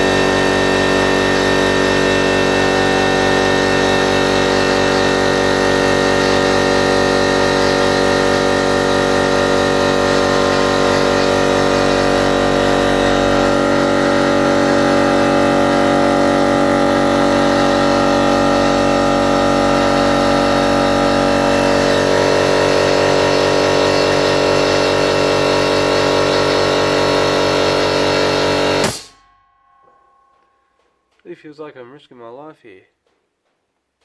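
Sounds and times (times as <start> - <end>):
air compressor running: 0.0 - 29.2.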